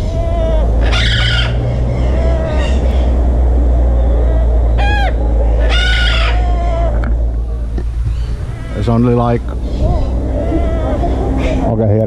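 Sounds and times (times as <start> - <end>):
macaws calling: 0.0 - 12.0
steady low rumble: 0.0 - 12.0.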